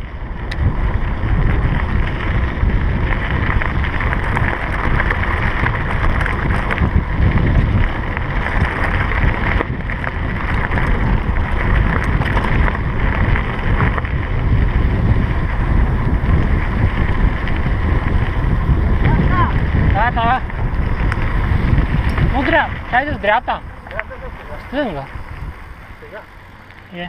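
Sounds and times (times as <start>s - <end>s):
bike tyres rumbling over gravel: 0.0s - 27.0s
wind buffeting microphone: 0.0s - 27.0s.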